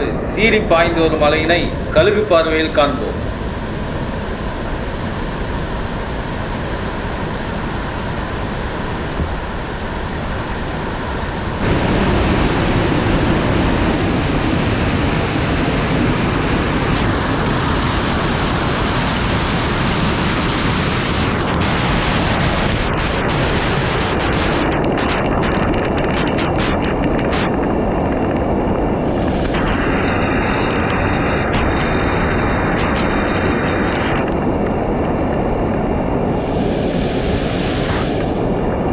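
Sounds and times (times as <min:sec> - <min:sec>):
waterfall roar: 0:00.0 - 0:38.9.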